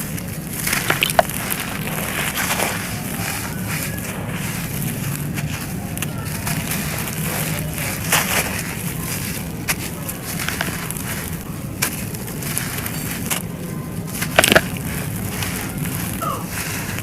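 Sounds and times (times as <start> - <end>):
dry chunks crunching: 0.0 - 17.0
gritty rustle: 0.0 - 17.0
loud crunch: 0.0 - 17.0.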